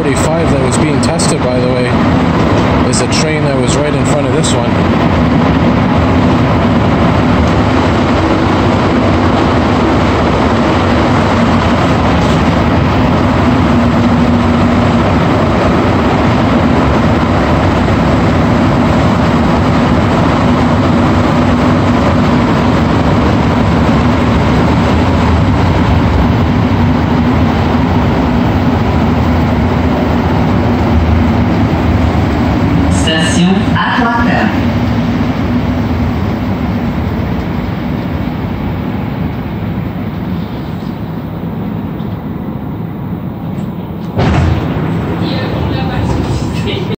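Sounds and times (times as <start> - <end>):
constant hum: 0.0 - 46.9
metro train rumble: 0.0 - 46.9.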